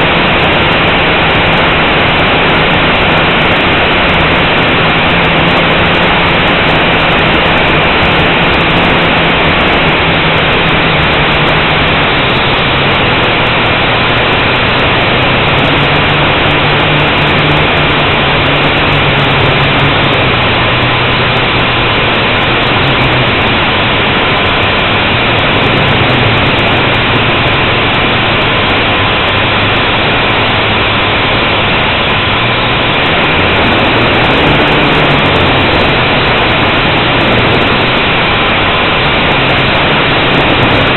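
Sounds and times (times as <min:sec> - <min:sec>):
quadcopter motors and propellers: 0:00.0 - 0:40.9.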